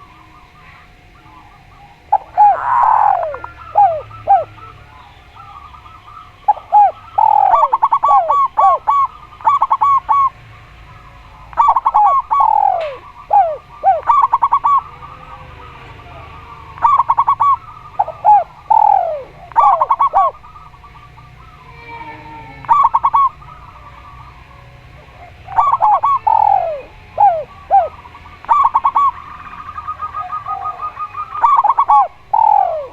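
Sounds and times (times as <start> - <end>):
doves cooing: 0.0 - 32.9.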